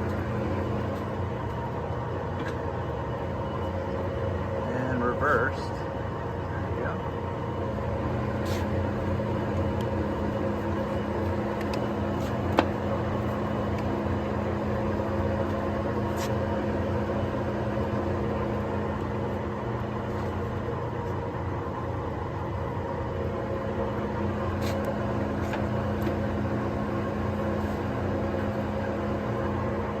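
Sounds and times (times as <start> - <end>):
lathe motor humming: 0.0 - 30.0.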